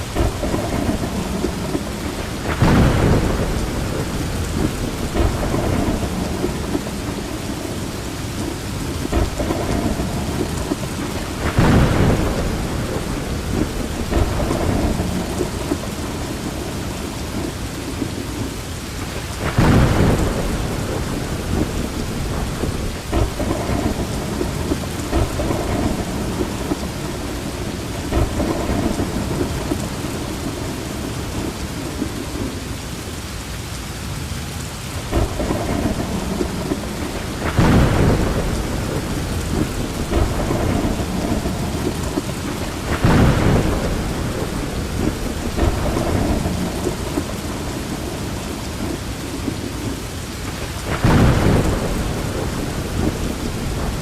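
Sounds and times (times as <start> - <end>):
thunder rumbling: 0.0 - 32.7, 34.9 - 54.0
heavy rain: 0.0 - 54.0.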